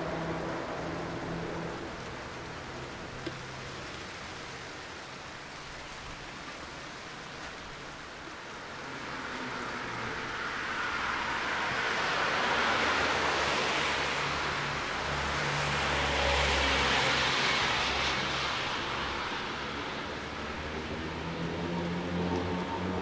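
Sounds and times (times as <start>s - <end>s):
car tyres hissing on wet road: 0.0s - 23.0s.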